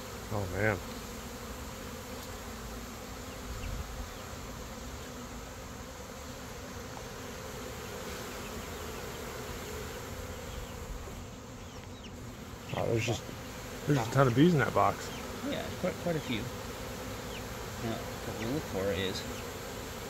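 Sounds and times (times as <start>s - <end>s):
bee swarm buzzing: 0.0s - 20.0s.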